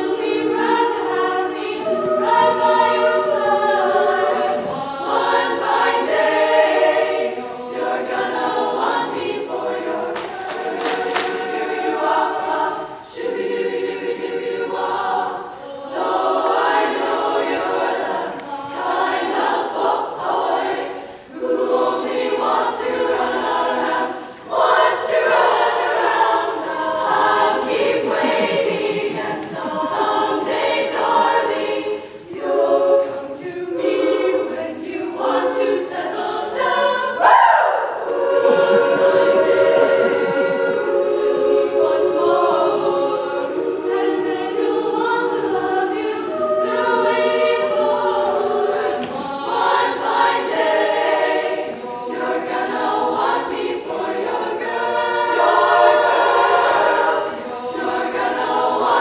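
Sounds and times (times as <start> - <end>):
girls' choir singing in harmony: 0.0 - 59.0.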